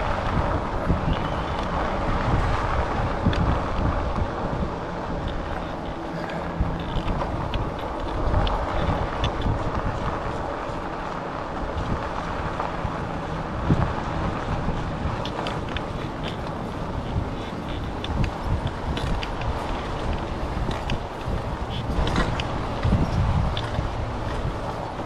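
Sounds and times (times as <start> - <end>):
low rumble of ride noise: 0.0 - 25.0
wind buffeting microphone: 0.0 - 25.0.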